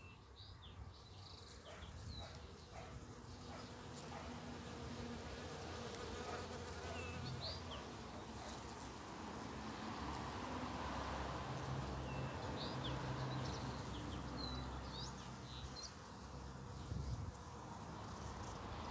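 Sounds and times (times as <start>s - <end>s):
bee buzzing in flight: 1.3s - 18.9s.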